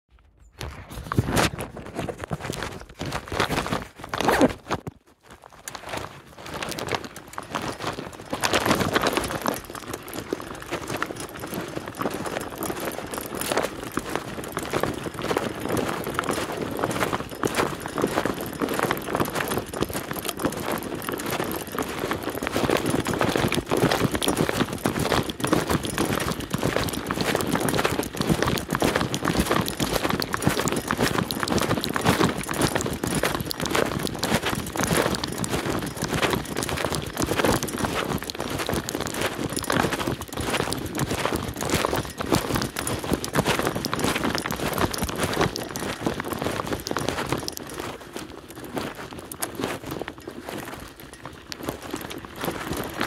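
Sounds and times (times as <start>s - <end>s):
bike tyres crunching on gravel: 1.0s - 53.0s
bike clicks and rattles: 5.6s - 53.0s.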